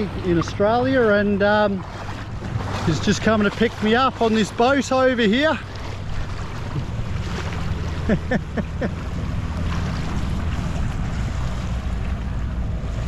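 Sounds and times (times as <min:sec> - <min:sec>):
outboard motor running: 0:00.0 - 0:13.0
small waves lapping: 0:00.0 - 0:13.0
wind buffeting microphone: 0:00.0 - 0:13.0.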